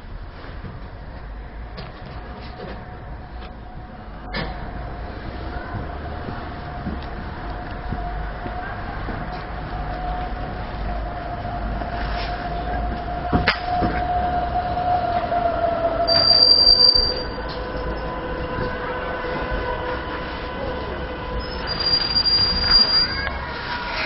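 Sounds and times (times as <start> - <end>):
train whine: 0.0 - 24.0
wheel squeals: 4.2 - 24.0.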